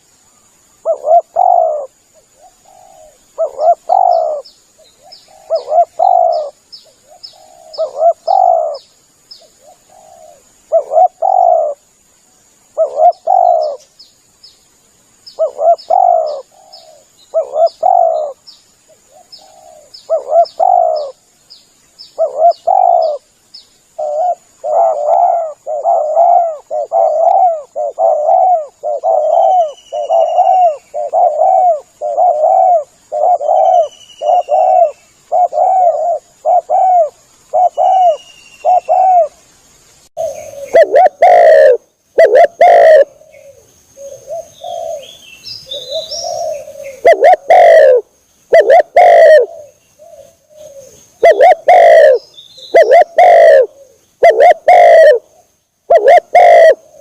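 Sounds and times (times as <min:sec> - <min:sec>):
small bird chirping faintly: 0:00.0 - 0:57.0
dove cooing: 0:00.8 - 0:08.8, 0:09.5 - 0:11.8, 0:12.8 - 0:13.9, 0:15.4 - 0:21.2, 0:22.2 - 0:23.3, 0:24.0 - 0:39.4, 0:40.2 - 0:57.0.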